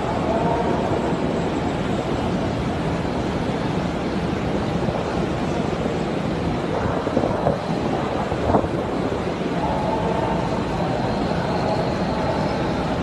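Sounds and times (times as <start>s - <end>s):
crowd walking in a large hall: 0.0s - 13.0s.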